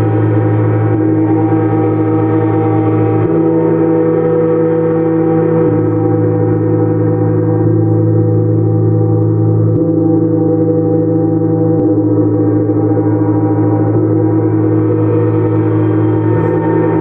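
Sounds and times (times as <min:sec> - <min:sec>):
gong sustained wash: 0:00.0 - 0:17.0.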